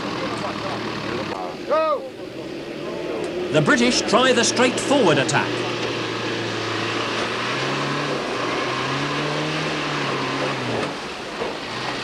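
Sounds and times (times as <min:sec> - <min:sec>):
diesel engine revving hard: 0:00.0 - 0:12.0.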